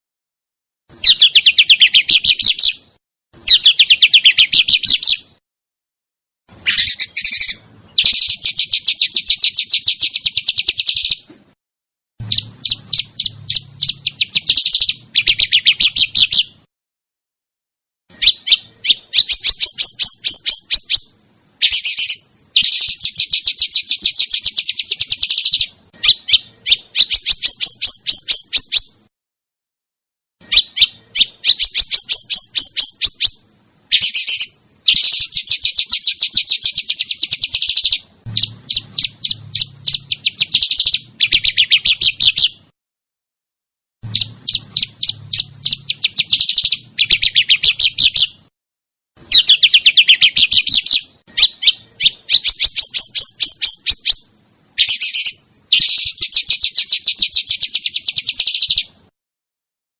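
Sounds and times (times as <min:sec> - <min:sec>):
songbird trilling: 0:01.0 - 0:02.8, 0:03.4 - 0:05.3, 0:06.6 - 0:11.3, 0:12.2 - 0:16.6, 0:18.1 - 0:29.0, 0:30.4 - 0:42.7, 0:44.1 - 0:48.4, 0:49.3 - 0:59.0.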